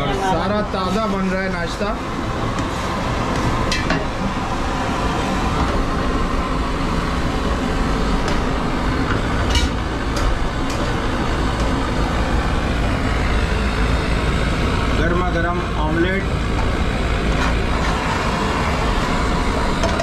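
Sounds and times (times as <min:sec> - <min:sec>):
low train rumble: 0:00.0 - 0:20.0.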